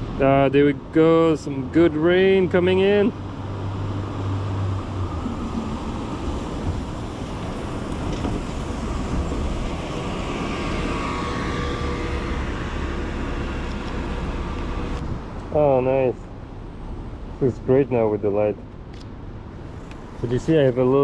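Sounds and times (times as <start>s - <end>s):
traffic passing: 0.0s - 21.0s.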